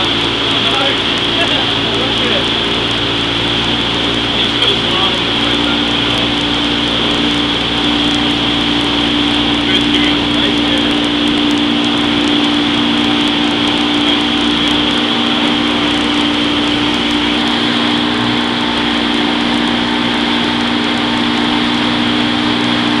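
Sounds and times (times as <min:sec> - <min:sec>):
boat engine running: 0:00.0 - 0:23.0
water rushing in wake: 0:00.0 - 0:23.0.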